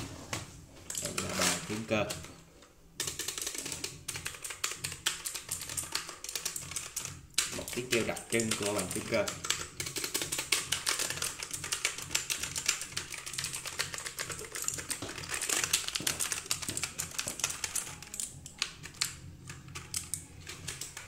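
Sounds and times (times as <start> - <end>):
mechanical keyboard typing: 0.9 - 2.4, 3.0 - 21.0.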